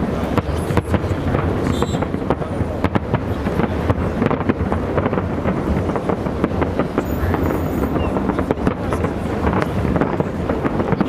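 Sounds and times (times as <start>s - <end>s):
fireworks bangs and crackles: 0.0s - 11.0s
steady low rumble: 0.0s - 11.0s.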